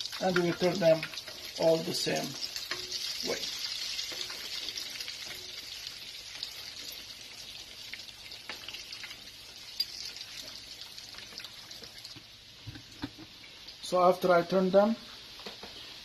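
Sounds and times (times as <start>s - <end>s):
oil sizzling in a frying pan: 0.0s - 16.0s.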